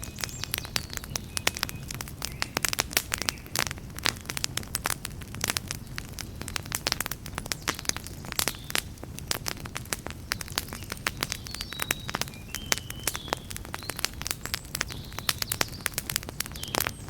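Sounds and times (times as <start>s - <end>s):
campfire crackling and popping: 0.0s - 17.0s
low steady fire rumble: 0.0s - 17.0s.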